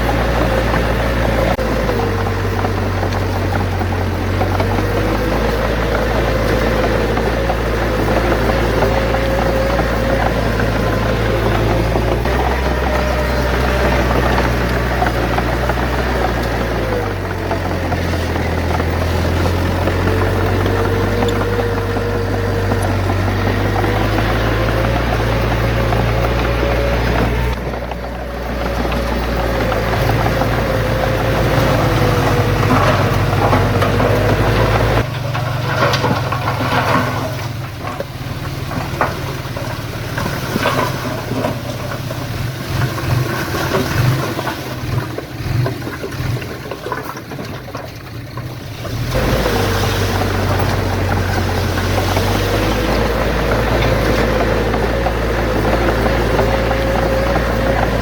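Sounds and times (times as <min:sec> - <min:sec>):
diesel earth-moving machinery rumbling: 0:00.0 - 0:58.0
knocks and clatter: 0:00.0 - 0:58.0.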